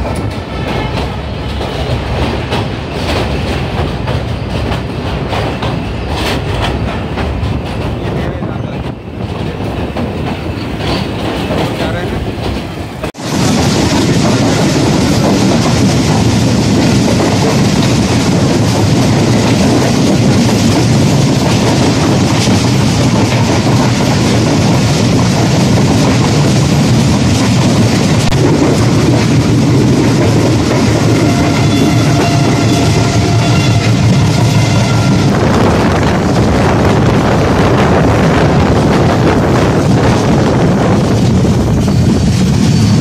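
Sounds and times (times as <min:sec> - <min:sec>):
train wheels clattering on track: 0:00.0 - 0:43.0.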